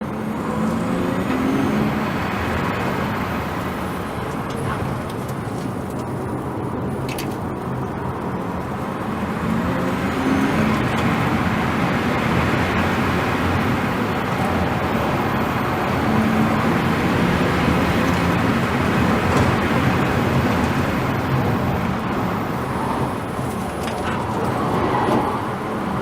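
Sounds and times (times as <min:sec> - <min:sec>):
tyre and wind noise: 0:00.1 - 0:26.0.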